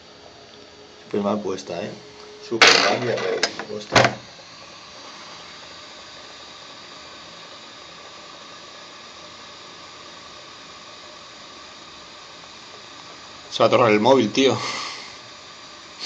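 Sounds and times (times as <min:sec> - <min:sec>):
hot air blower hissing: 0:00.0 - 0:16.0.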